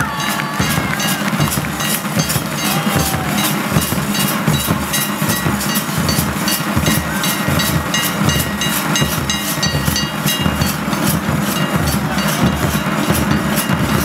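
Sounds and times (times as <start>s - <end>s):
barrel drums beaten with sticks: 0.0s - 14.0s
high ringing notes: 0.0s - 14.0s.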